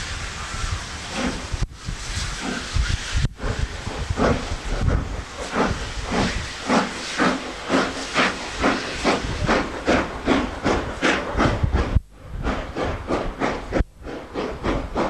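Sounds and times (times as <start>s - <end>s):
hiss of escaping steam: 0.0s - 15.0s
steam locomotive exhaust chuffs: 0.0s - 15.0s.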